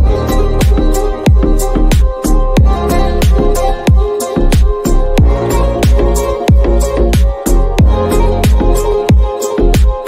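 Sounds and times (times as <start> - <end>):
music with deep drum beat: 0.0 - 10.0.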